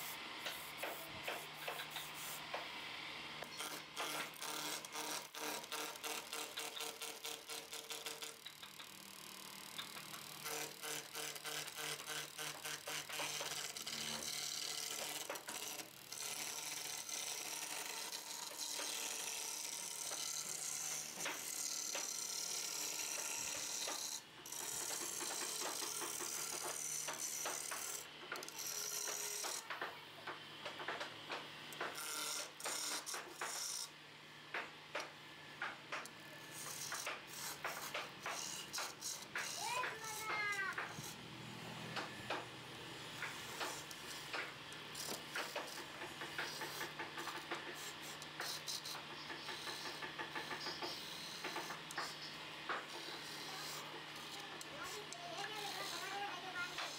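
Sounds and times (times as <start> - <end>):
lathe motor hum: 0.2 - 29.6, 36.4 - 56.9
chisel cutting on wood lathe: 3.4 - 29.7, 31.8 - 33.9, 36.4 - 41.2, 42.0 - 56.9.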